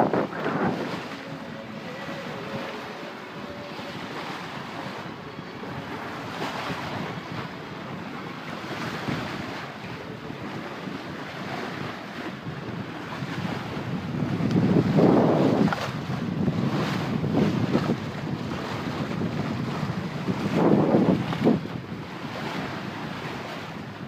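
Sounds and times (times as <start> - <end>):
water rushing along hull: 0.0 - 24.0
wind noise on microphone: 0.0 - 24.0.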